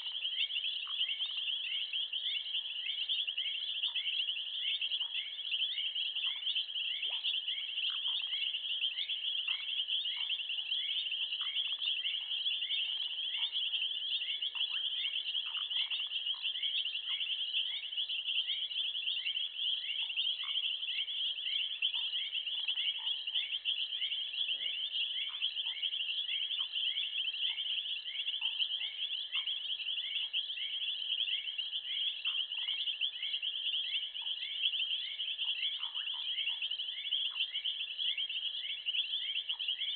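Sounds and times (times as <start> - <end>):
repeating insect call: 0.0 - 39.9.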